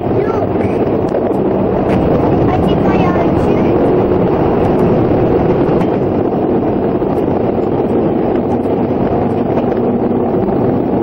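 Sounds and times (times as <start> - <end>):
train wheels rumbling on rails: 0.0 - 11.0
wind noise: 0.0 - 11.0.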